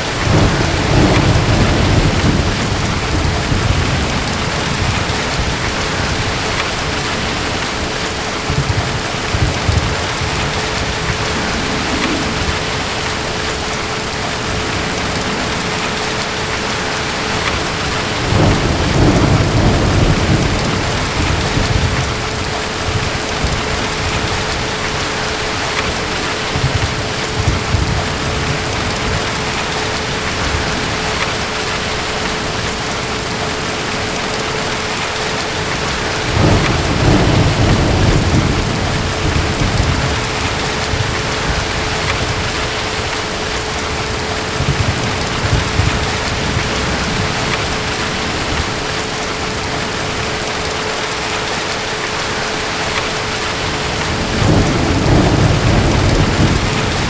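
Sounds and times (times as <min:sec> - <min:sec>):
distant thunder rolling: 0:00.0 - 0:51.6, 0:52.9 - 0:57.0
heavy rain: 0:00.0 - 0:57.0.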